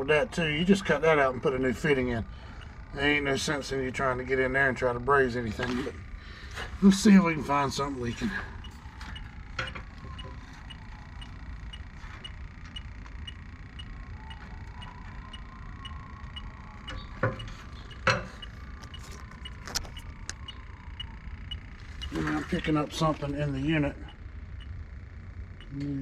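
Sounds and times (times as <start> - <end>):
leak detector beeping: 0.0 - 26.0.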